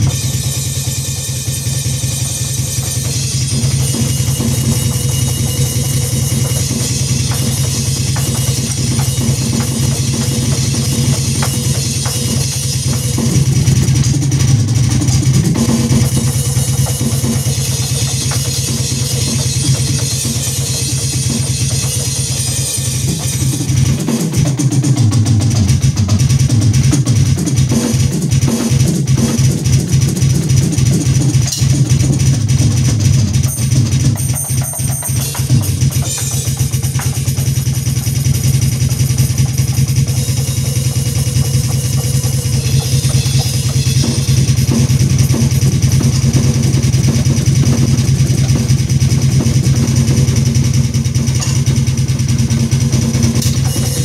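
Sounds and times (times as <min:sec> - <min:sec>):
bass drum pedal strokes: 0:00.0 - 0:54.0
drum and cymbal hits: 0:00.0 - 0:54.0.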